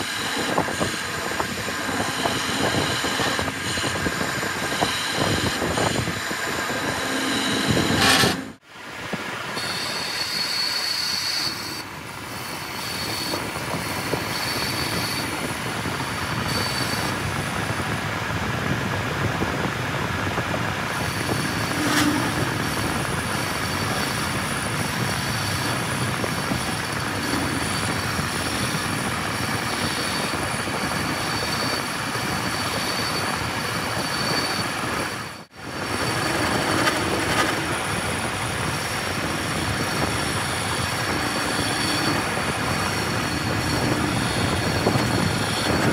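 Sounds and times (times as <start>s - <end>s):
thin high squeal: 0.0s - 8.6s, 9.6s - 17.3s, 21.0s - 45.9s
lathe machining noise: 0.0s - 19.0s, 20.6s - 45.9s.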